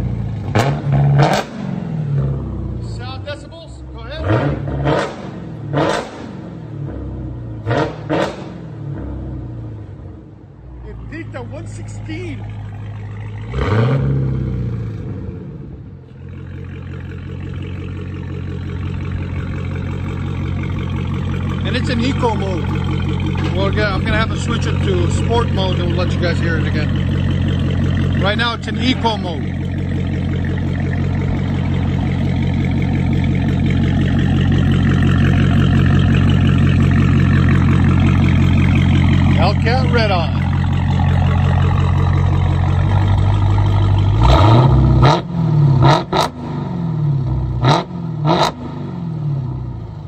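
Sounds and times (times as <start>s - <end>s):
car engine revving and idling: 0.0s - 50.0s.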